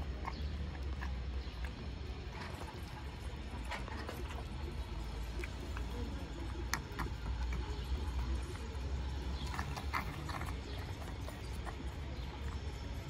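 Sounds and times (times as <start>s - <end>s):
cats chewing wet food: 0.0s - 13.0s.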